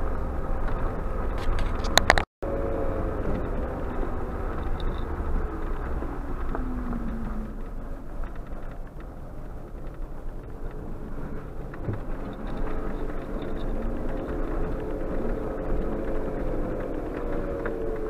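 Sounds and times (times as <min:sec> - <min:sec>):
car engine rumble: 0:00.0 - 0:18.0
tyres on gravel: 0:00.0 - 0:18.0.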